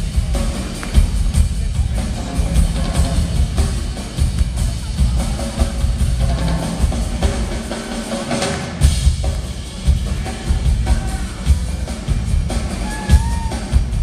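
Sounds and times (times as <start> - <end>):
rock drum kits playing: 0.0 - 14.0.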